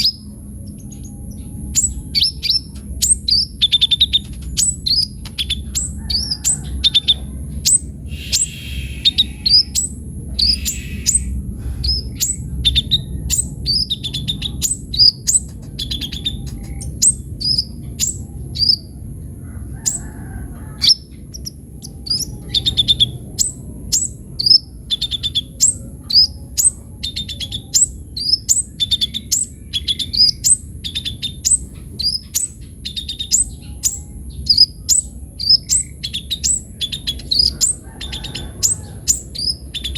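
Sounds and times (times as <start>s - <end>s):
bird singing high chirps: 0.0s - 39.9s
low background rumble: 0.0s - 39.9s.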